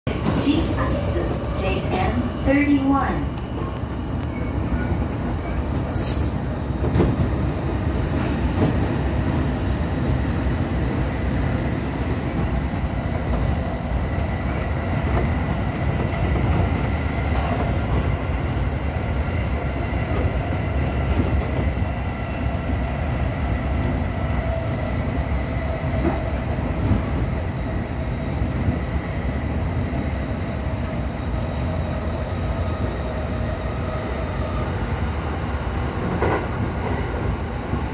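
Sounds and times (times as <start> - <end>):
train wheels rumbling on rails: 0.1 - 37.9.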